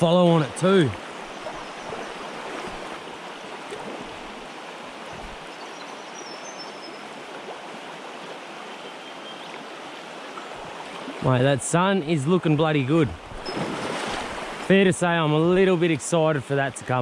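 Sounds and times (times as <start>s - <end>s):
river flowing: 0.0s - 16.8s.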